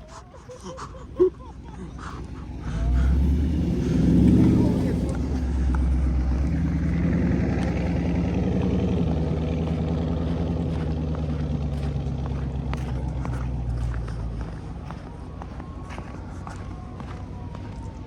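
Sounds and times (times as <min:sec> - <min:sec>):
car engine running steadily: 0:00.0 - 0:18.0.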